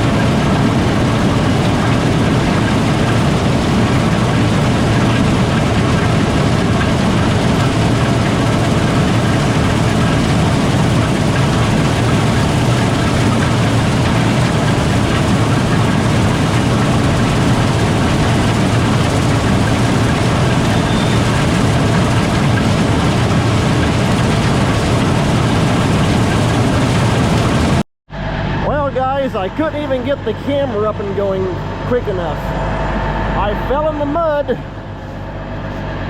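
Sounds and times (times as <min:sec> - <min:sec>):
combine harvester droning: 0:00.0 - 0:36.0.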